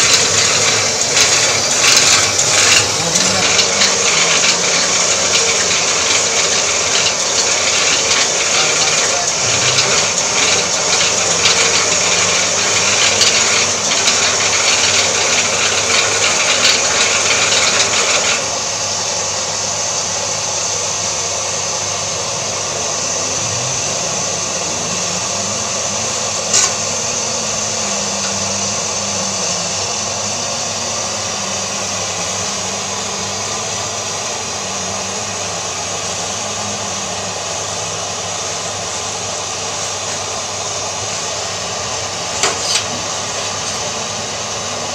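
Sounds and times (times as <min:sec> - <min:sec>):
electric motor humming: 0:00.0 - 0:44.9
shredder grinding plastic: 0:00.0 - 0:44.9.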